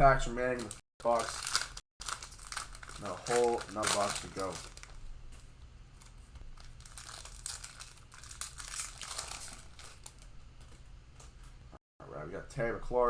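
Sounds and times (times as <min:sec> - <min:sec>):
cellophane wrapper crinkling: 0:00.6 - 0:11.4.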